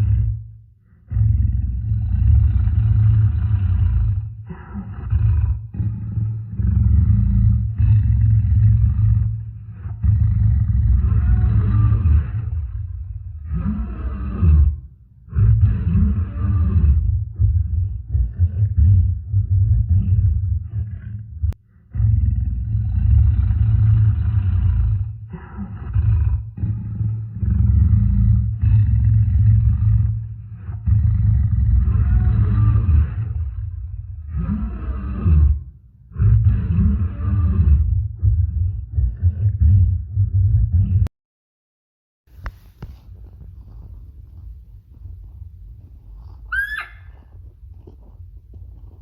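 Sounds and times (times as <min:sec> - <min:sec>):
large animal roaring: 0:00.0 - 0:41.1.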